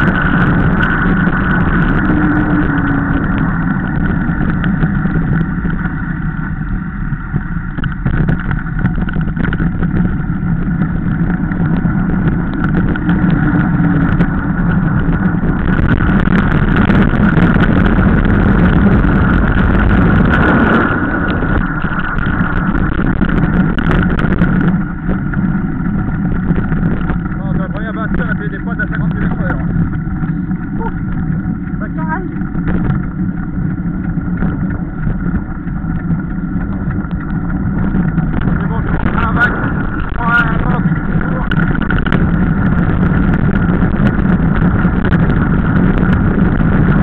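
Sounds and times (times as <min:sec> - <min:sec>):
bike clattering over bumps: 0:00.0 - 0:47.0
tyres rumbling on road: 0:00.0 - 0:47.0
wind on microphone: 0:00.0 - 0:47.0.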